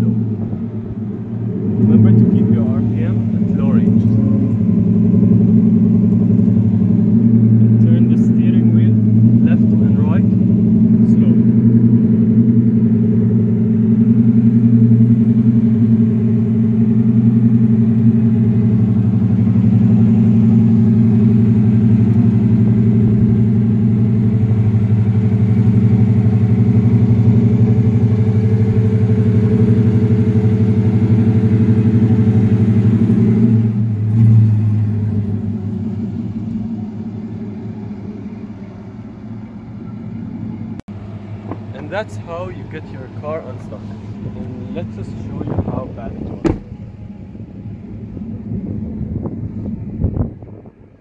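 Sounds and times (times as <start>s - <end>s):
pickup engine pulling at low revs: 0.0s - 51.0s.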